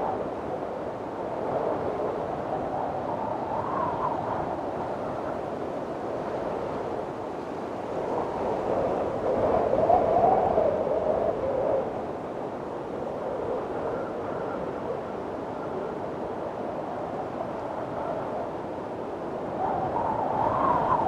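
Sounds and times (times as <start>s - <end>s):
strong wind blowing: 0.0s - 21.0s
whistling wind gust: 0.0s - 21.0s.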